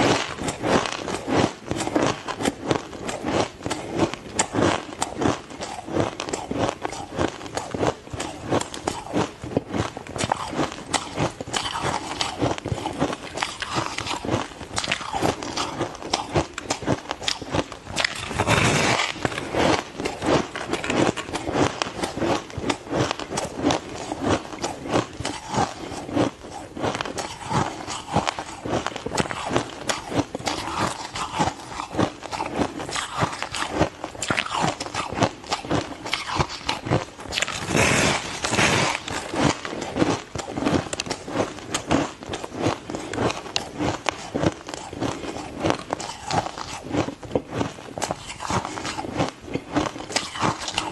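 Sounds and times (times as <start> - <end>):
ice crunching while chewed: 0.0 - 50.9.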